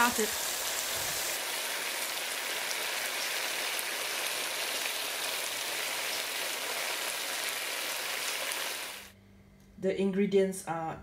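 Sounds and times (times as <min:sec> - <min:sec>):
chicken wings sizzling in a pan: 0:00.0 - 0:09.1.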